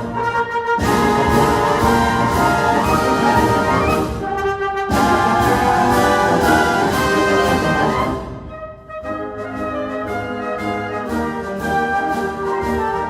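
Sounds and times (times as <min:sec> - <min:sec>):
orchestra with brass held chords: 0:00.0 - 0:13.0.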